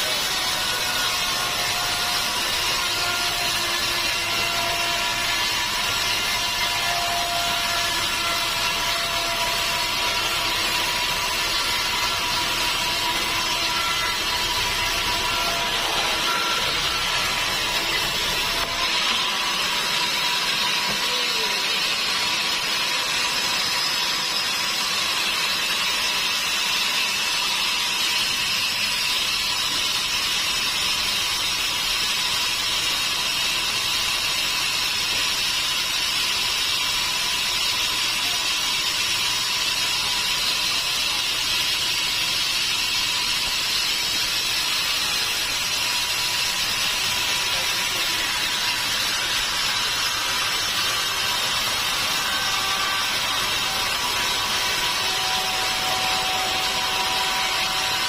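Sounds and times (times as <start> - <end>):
sawmill saw whining: 0.0 - 58.0.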